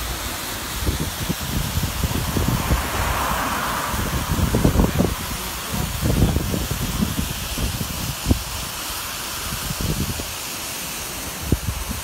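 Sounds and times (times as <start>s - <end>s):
storm runoff rushing: 0.0s - 12.0s
wind buffeting microphone: 0.6s - 10.4s, 11.4s - 12.0s.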